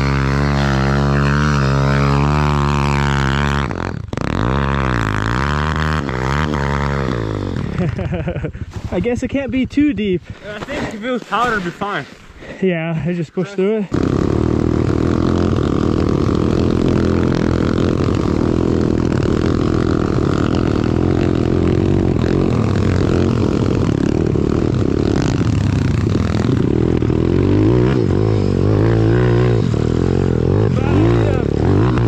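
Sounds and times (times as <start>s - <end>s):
motorbike engine revving: 0.0s - 9.8s, 13.8s - 32.0s.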